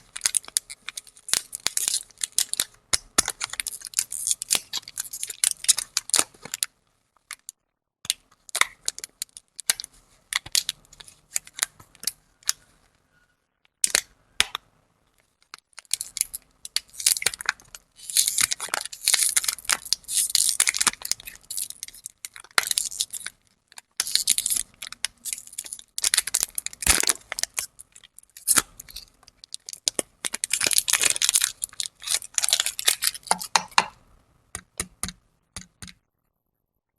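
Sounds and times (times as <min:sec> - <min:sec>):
plastic wrappers crinkling: 0:00.0 - 0:12.7, 0:15.2 - 0:34.0.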